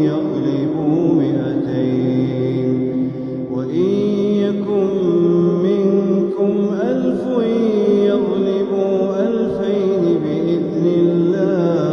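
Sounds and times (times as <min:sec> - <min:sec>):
person chanting melodic recitation: 0:00.0 - 0:11.9.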